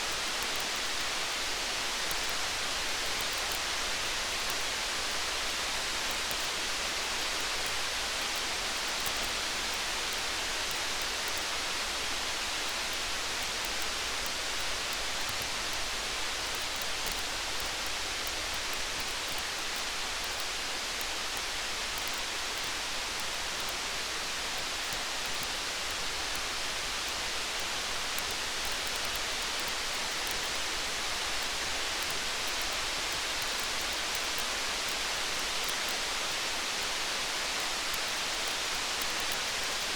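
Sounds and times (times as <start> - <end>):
faint campfire crackles: 0.0 - 39.9.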